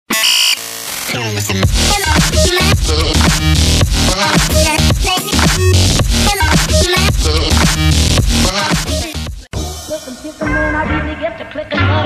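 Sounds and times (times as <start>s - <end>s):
loud electronic music with heavy bass: 0.1s - 11.2s.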